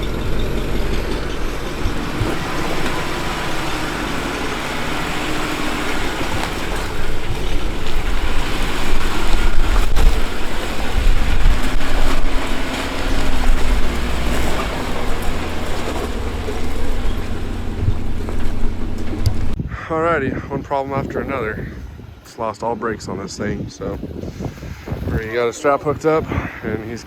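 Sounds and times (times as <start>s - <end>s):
off-road vehicle engine rumble: 0.0s - 22.2s.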